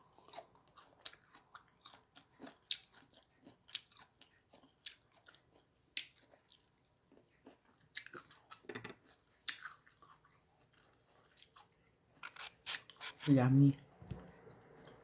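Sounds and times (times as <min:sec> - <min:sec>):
chewing crunchy fruit: 0:00.0 - 0:15.0.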